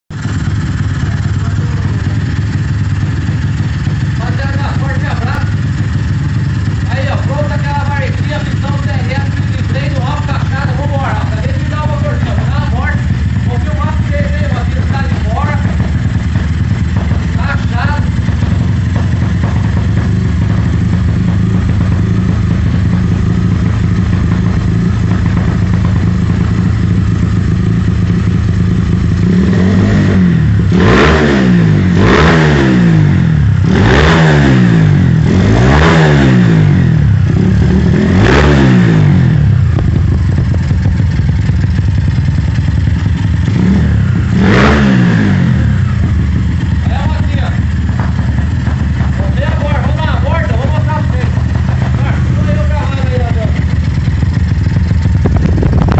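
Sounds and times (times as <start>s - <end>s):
motorcycle engine idling and revving: 0.0s - 55.9s.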